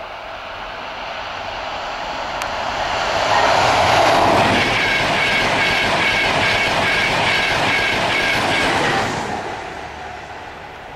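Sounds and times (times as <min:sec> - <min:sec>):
train passing at speed: 0:00.0 - 0:10.9.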